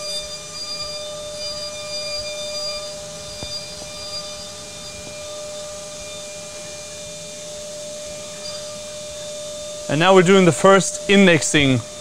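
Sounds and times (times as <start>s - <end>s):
milling machine spindle whine: 0.0s - 12.0s.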